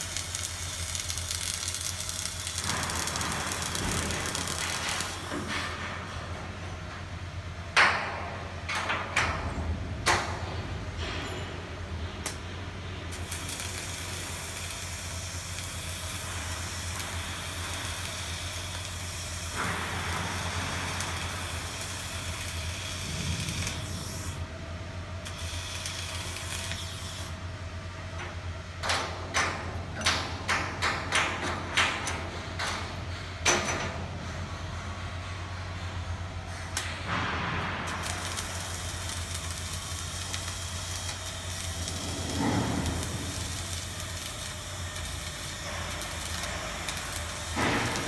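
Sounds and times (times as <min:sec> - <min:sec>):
steady low hum: 0:00.0 - 0:48.0
welding arc hissing and crackling: 0:00.0 - 0:48.0.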